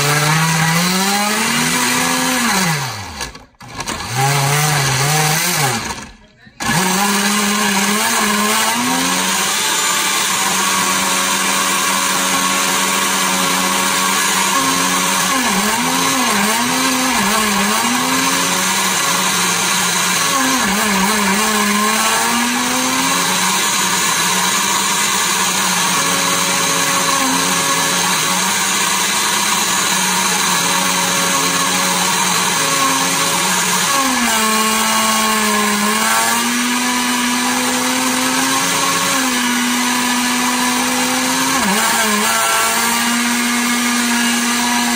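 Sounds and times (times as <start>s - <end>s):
blender motor running: 0.0s - 44.9s.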